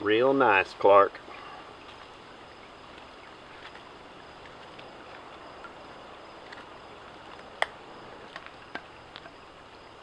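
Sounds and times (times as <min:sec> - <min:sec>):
small stream hissing: 0:00.0 - 0:10.0.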